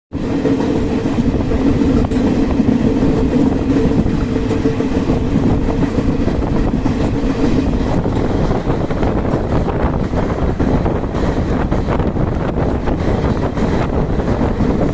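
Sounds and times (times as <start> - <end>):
train wheels rumbling on rails: 0.1 - 14.9.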